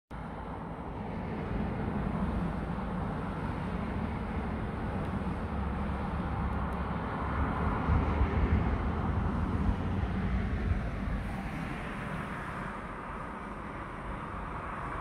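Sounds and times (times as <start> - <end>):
bus and cars driving past: 0.1 - 15.0.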